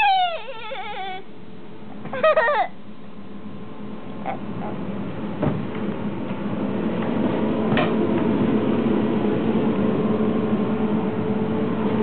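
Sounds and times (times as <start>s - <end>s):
train ventilation hum: 0.0s - 12.0s.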